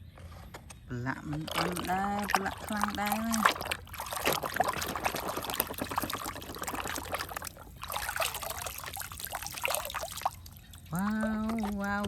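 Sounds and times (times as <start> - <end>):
small splashes: 1.3 - 12.0
water trickling and pouring: 1.3 - 12.0.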